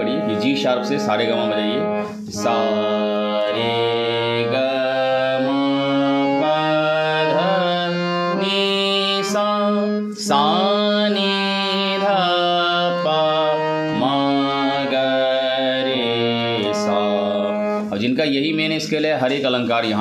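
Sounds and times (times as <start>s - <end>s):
person singing: 0.0s - 18.0s
harmonium played slowly: 0.0s - 18.2s.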